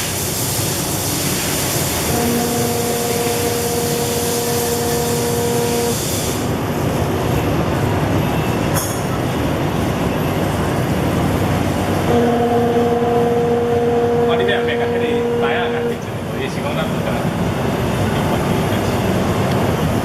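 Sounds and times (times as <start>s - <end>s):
steady hum with overtones: 0.0s - 20.0s
car road noise: 2.0s - 8.4s, 9.1s - 20.0s.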